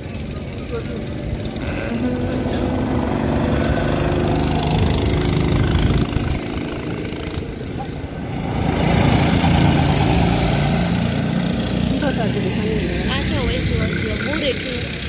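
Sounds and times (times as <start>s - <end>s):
go-kart engines buzzing: 0.0s - 15.0s.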